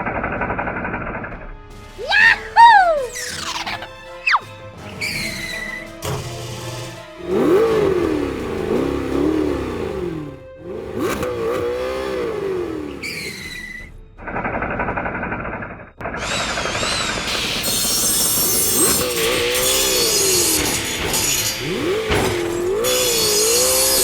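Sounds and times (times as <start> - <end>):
toy vehicle engine revving: 2.1 - 13.9, 16.1 - 24.0.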